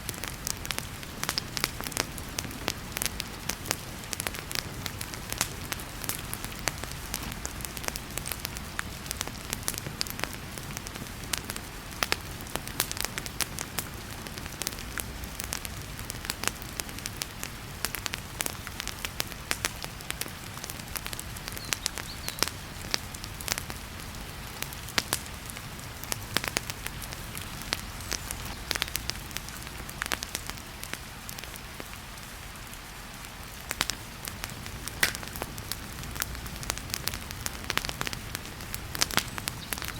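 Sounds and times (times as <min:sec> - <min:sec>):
wood fire crackling and popping: 0:00.0 - 0:32.3, 0:33.3 - 0:39.9
heavy rain hissing: 0:00.0 - 0:39.9.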